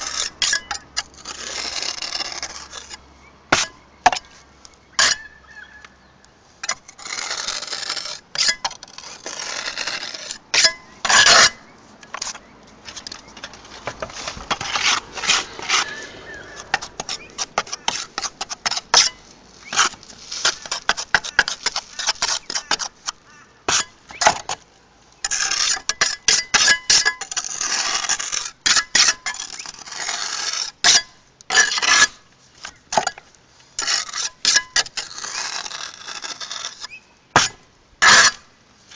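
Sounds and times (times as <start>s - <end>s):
trowel scraping on tiles: 0.0s - 3.0s, 6.6s - 24.5s, 25.2s - 32.2s, 33.8s - 38.4s.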